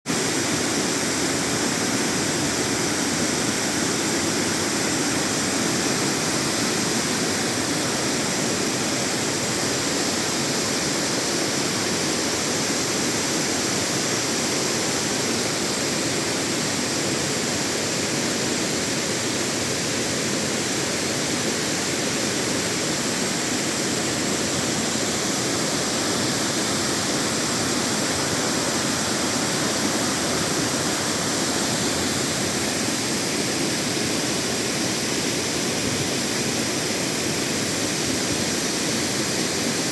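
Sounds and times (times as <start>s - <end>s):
waterfall thundering: 0.0s - 39.9s.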